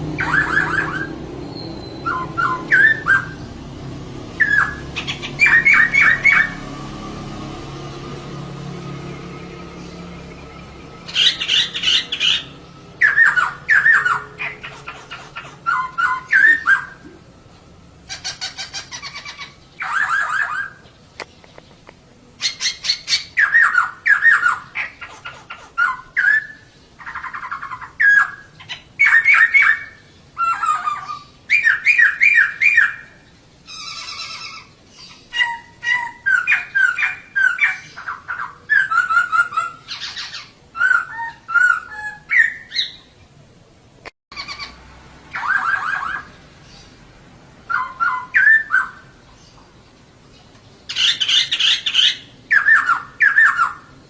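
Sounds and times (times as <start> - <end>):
bird chattering calls: 0.1 - 3.6, 4.4 - 6.6, 10.7 - 17.2, 18.0 - 43.2, 44.3 - 47.0, 47.7 - 54.0.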